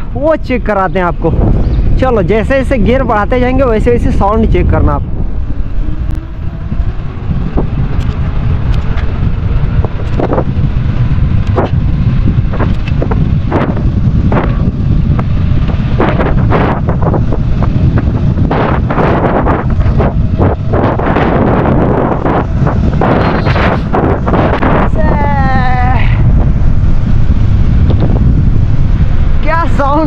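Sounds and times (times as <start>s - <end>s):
bike tyres rolling on asphalt: 0.0s - 30.0s
wind buffeting microphone: 0.0s - 30.0s.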